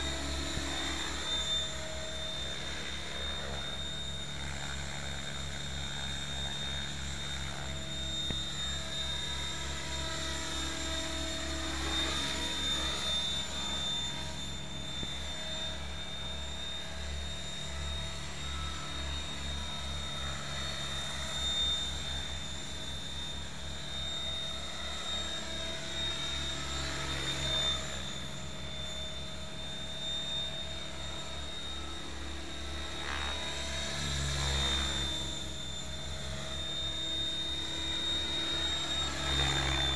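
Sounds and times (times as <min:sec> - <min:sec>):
rc helicopter whine: 0:00.0 - 0:39.9.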